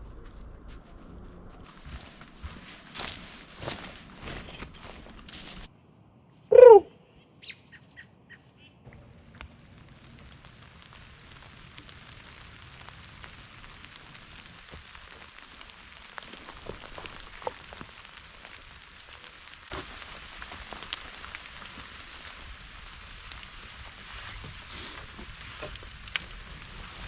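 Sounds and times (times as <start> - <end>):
steady rain hiss: 1.7 - 6.0, 8.6 - 27.0.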